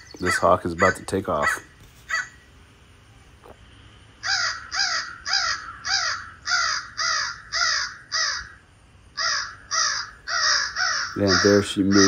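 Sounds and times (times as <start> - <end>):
crows cawing from a speaker: 0.0 - 2.4, 4.2 - 12.0.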